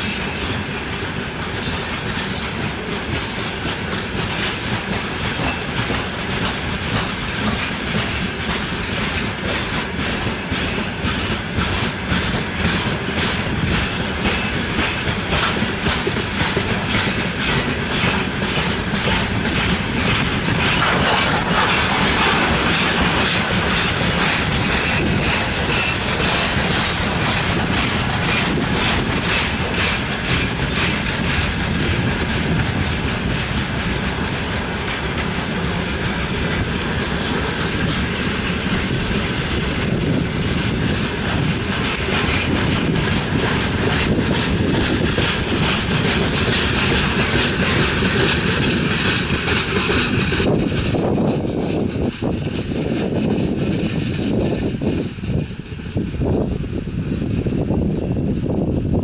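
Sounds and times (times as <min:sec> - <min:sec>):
wheels clacking over rail joints: 0:00.0 - 0:56.2
train wheels rumbling on rails: 0:00.0 - 0:59.0.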